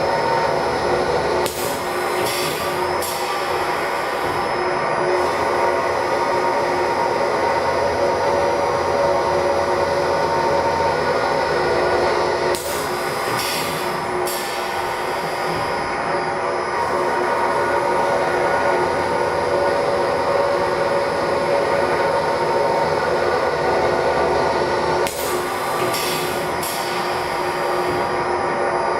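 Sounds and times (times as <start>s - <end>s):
tape-cutting machine droning: 0.0s - 28.9s.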